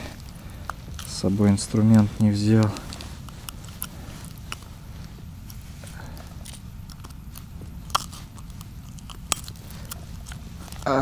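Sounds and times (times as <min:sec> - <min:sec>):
small clicks and crunches: 0:00.0 - 0:11.0
steady low rumble: 0:00.0 - 0:11.0.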